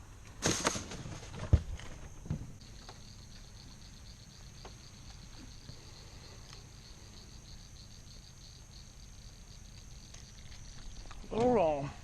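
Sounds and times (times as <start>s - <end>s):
low steady hum: 0.0s - 12.0s
insect chirping: 1.4s - 12.0s
insect trill: 1.8s - 12.0s.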